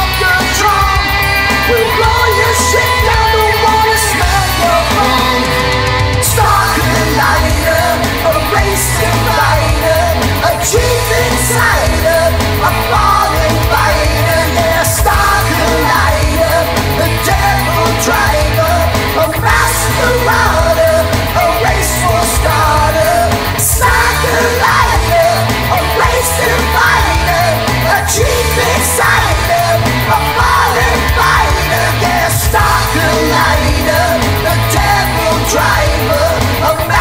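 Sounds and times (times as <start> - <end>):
hard rock song: 0.0 - 37.0.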